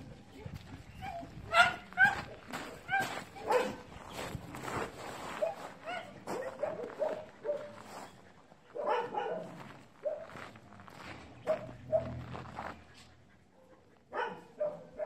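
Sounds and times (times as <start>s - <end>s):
dogs barking: 1.0s - 3.9s, 5.3s - 15.0s.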